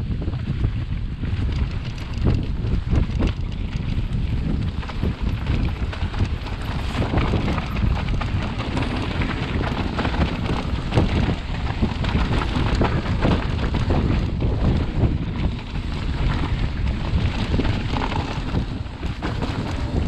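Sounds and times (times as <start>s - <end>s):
wind buffeting microphone: 0.0s - 20.0s
bike clattering over rough ground: 0.4s - 20.0s.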